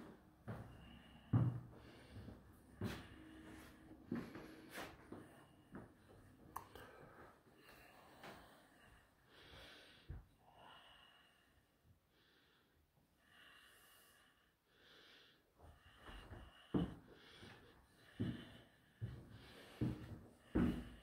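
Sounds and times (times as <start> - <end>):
slow breathing: 0.0 - 21.0.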